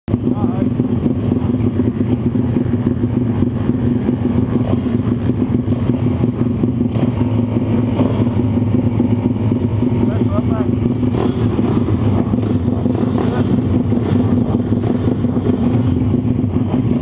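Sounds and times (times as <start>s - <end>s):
motorcycle engine idling: 0.1s - 17.0s.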